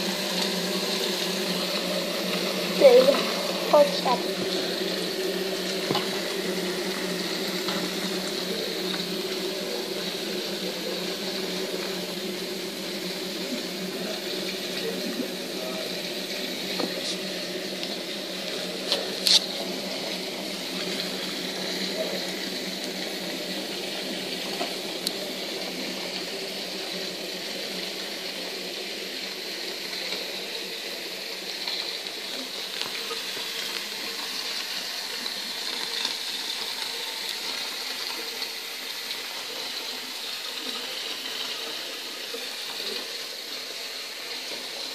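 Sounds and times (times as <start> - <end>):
water running: 0.0 - 44.9.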